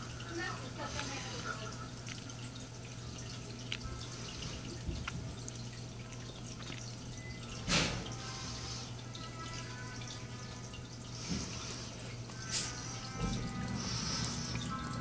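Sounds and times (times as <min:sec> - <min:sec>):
aquarium water trickling: 0:00.0 - 0:15.0.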